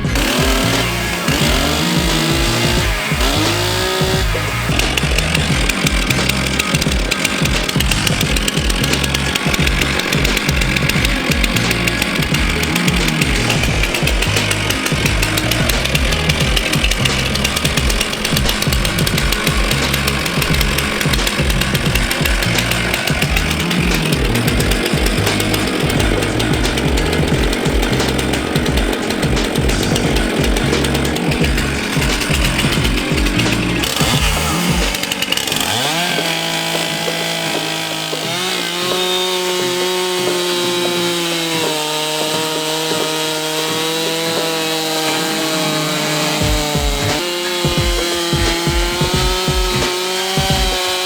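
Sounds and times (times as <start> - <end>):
background music with bass line: 0.0 - 51.0
chainsaw cutting log: 0.0 - 51.0.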